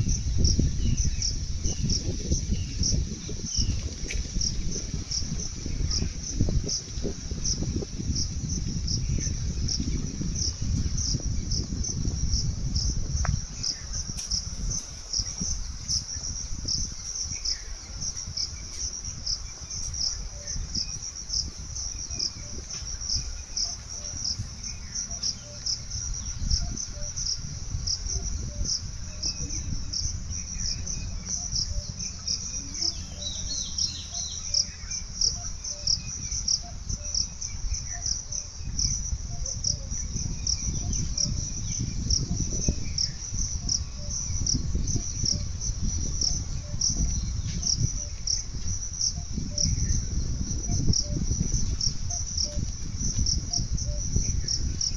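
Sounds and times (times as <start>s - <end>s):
insects chirping: 0.0s - 54.9s.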